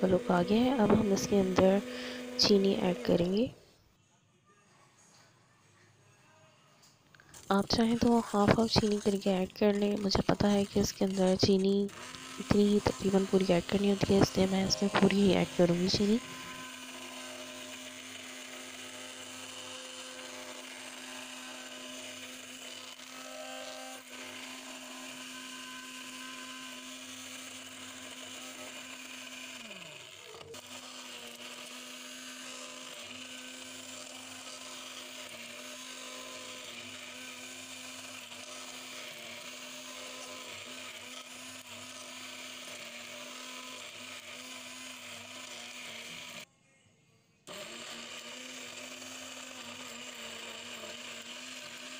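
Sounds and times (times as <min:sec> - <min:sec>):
electric stick blender whisking: 0:00.0 - 0:03.6, 0:07.1 - 0:46.5, 0:47.5 - 0:51.9.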